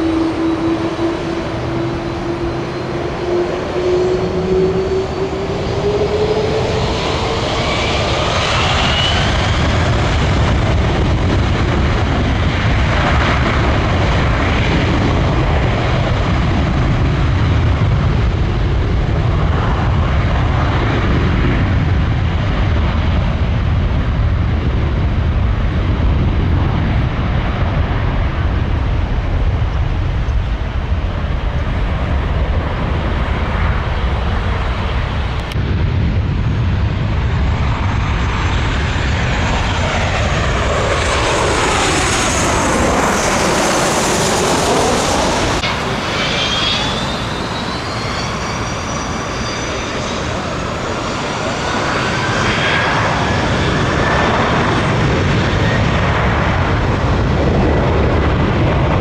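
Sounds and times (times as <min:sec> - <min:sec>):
jet airliner flying overhead: 0:00.0 - 0:59.0.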